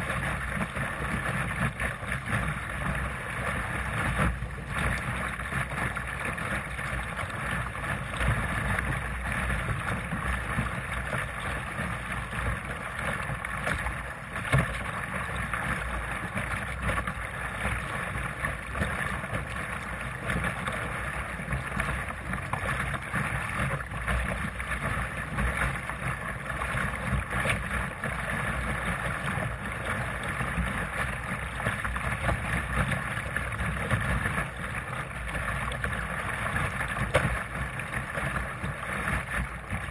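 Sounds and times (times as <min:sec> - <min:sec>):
water splashing along hull: 0:00.0 - 0:39.9.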